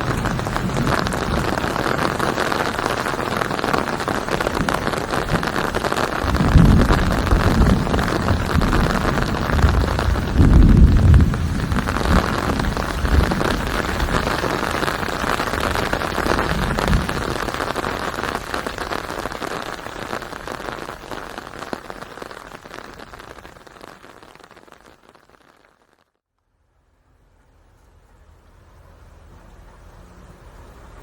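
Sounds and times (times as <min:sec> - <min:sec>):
steady rain: 0:00.0 - 0:26.2, 0:27.2 - 0:31.0.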